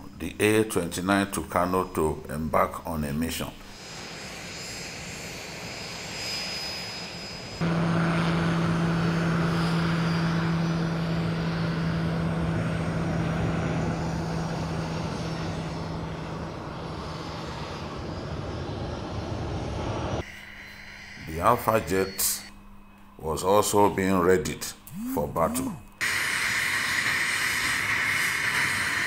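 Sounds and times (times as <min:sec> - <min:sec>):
turboprop engine droning: 0:03.7 - 0:24.2, 0:24.8 - 0:29.0.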